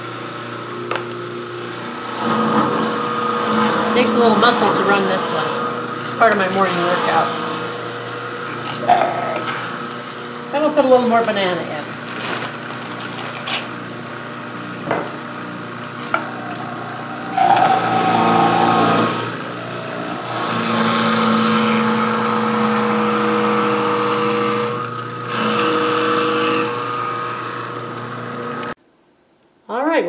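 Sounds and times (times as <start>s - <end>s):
juicer motor grinding fruit: 0.0s - 28.8s.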